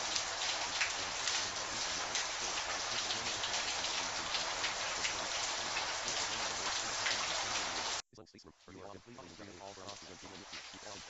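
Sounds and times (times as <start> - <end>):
rain hissing: 0.0 - 11.0
raindrops striking: 0.0 - 11.0.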